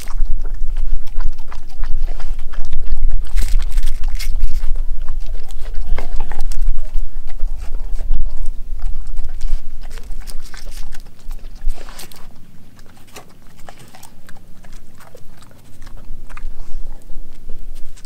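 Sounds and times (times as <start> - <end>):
dog licking and chewing: 0.0 - 18.0
tongue and teeth clicking on board: 0.0 - 18.0.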